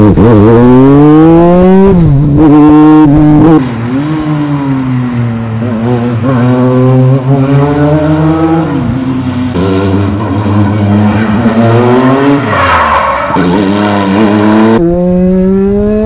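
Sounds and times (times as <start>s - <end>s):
racing car engine revving: 0.0s - 16.0s.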